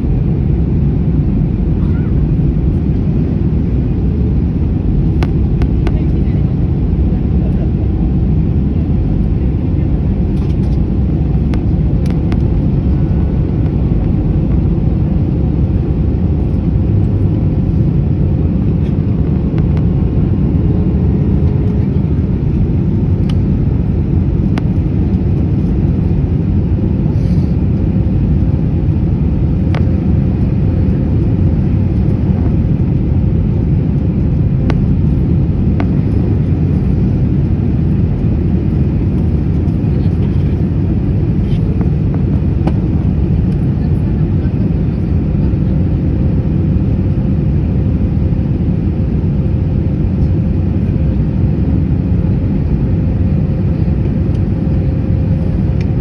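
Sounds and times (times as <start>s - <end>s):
jet airliner rumble: 0.0s - 56.0s.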